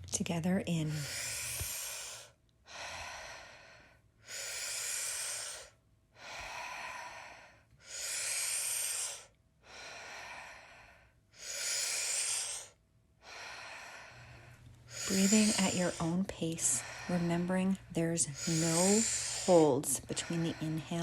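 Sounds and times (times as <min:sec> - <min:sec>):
person power breathing: 0:00.9 - 0:21.0.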